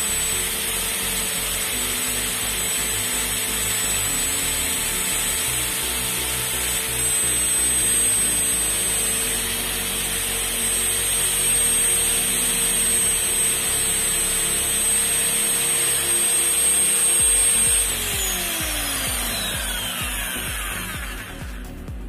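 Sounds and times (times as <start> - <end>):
steel rod rubbing spinning core: 0.0 - 21.9
electric motor whine: 0.0 - 22.0.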